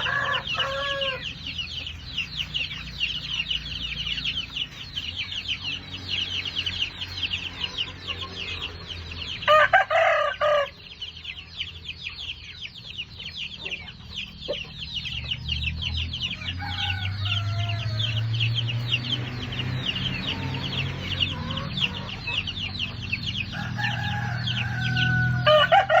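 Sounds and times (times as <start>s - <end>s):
chickens calling: 0.0s - 26.0s.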